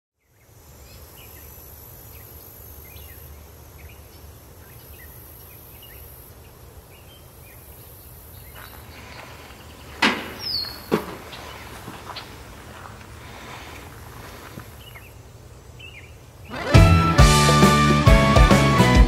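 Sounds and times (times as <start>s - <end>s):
faint high hiss: 0.2s - 16.8s
small birds chirping: 0.2s - 16.8s.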